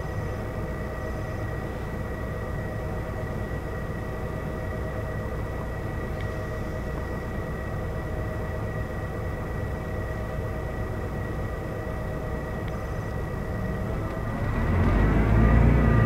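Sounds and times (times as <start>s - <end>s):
bus engine idling: 0.0s - 16.0s
high whine: 0.0s - 16.0s.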